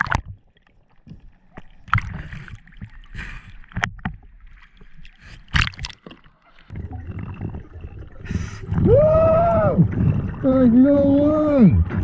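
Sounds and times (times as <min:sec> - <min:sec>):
low underwater rushing: 0:00.0 - 0:12.0
underwater rocks clicking and knocking: 0:00.0 - 0:12.0.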